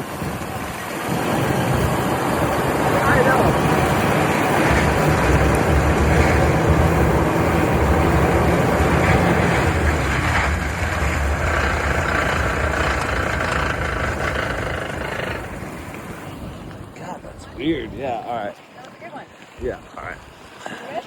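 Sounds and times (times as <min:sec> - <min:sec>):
truck engine and drivetrain hum: 0:00.0 - 0:16.9.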